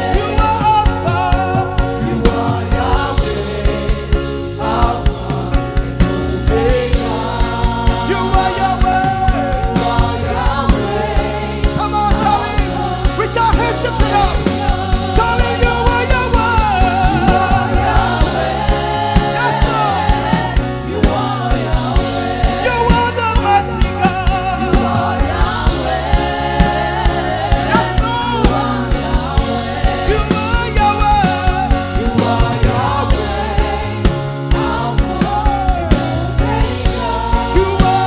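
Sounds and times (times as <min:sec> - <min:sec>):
band with steady drum beat: 0:00.0 - 0:38.0
voices singing together: 0:00.0 - 0:38.0.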